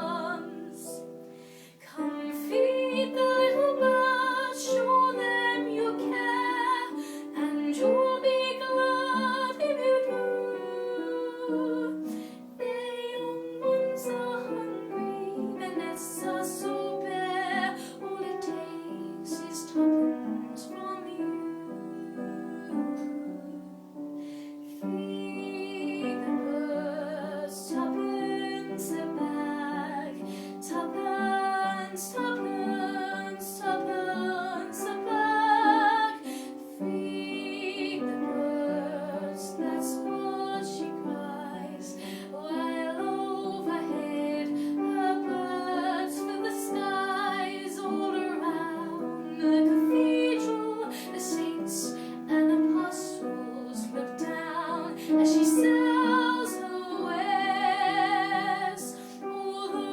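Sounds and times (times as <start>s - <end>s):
woman singing with vibrato: 0.0s - 1.0s, 1.9s - 19.9s, 24.9s - 59.9s
piano accompaniment: 0.0s - 59.9s.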